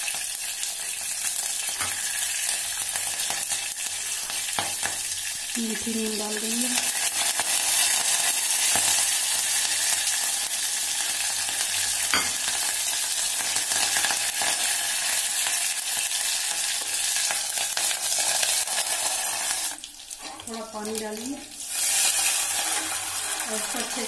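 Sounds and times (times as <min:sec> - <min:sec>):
leaves sizzling in hot oil: 0:00.0 - 0:24.0.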